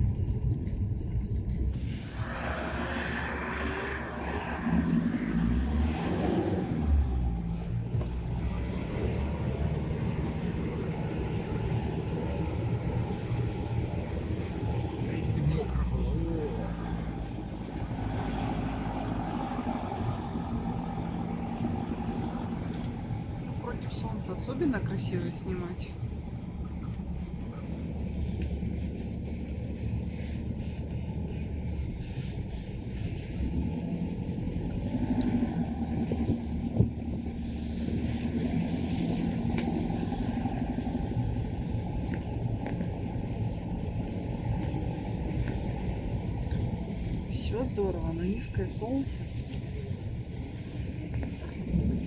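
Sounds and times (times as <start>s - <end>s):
road noise: 0.0s - 52.0s
vehicle engine running: 0.0s - 52.0s.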